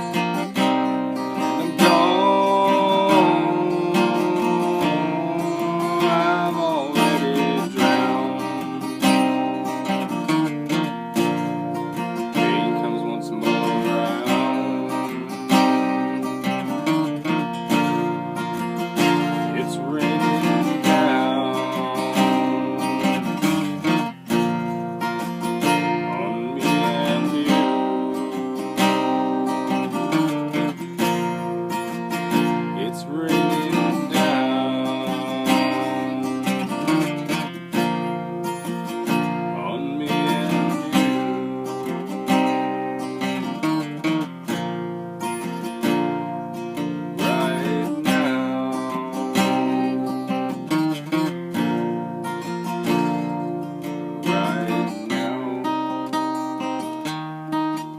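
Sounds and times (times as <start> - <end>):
acoustic guitar strumming: 0.0 - 57.9.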